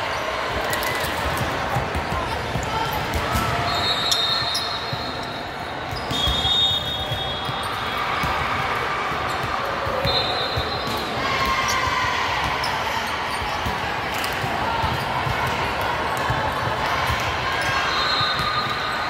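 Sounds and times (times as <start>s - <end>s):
volleyballs bouncing and hit: 0.5s - 3.8s, 4.8s - 18.9s.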